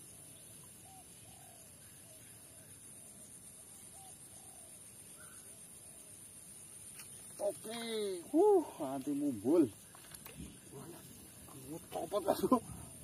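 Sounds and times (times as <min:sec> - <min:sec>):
faint bird calls: 0:00.0 - 0:13.0
steady high hiss: 0:00.0 - 0:13.0.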